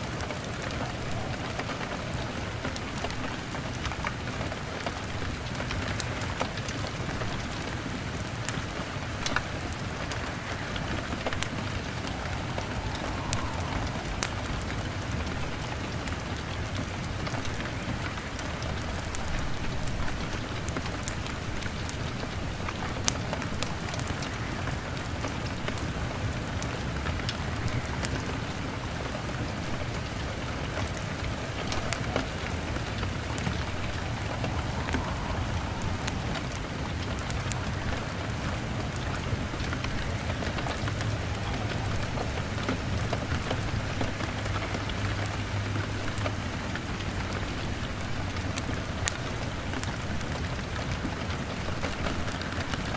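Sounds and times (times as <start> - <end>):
rain pattering on a window: 0.0 - 52.9
wood fire crackling: 0.0 - 52.9.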